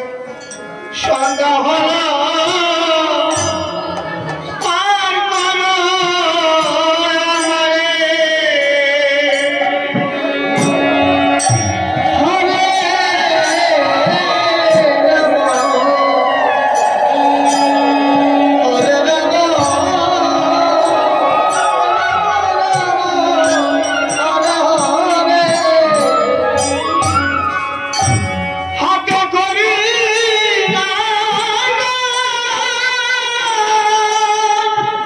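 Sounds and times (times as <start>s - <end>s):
devotional singing: 0.0s - 27.9s, 28.6s - 35.0s
instrumental accompaniment: 0.0s - 35.0s
percussion strokes: 0.0s - 35.0s.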